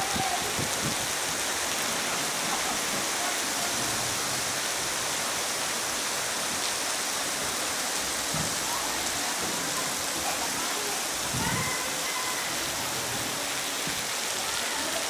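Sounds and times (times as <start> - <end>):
rain on a paved street: 0.0 - 15.0.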